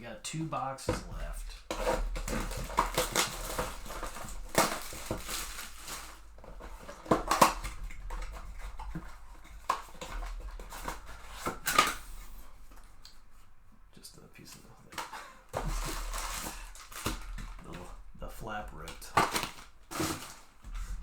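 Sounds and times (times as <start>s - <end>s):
cardboard and wrappers crinkling: 0.9s - 13.5s, 14.4s - 21.0s.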